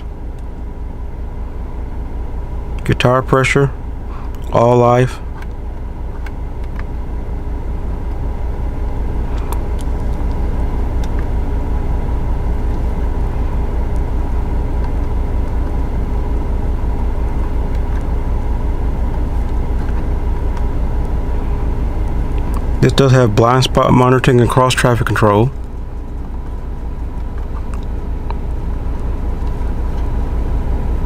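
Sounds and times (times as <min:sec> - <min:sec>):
car cabin low rumble: 0:00.0 - 0:31.0
faint steady hum: 0:00.0 - 0:31.0.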